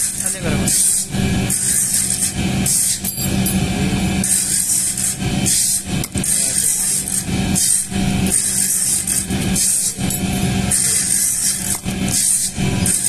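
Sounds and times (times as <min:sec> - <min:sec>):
metal hook scraping on brick: 0:00.0 - 0:13.0
steady low hum: 0:00.0 - 0:13.0.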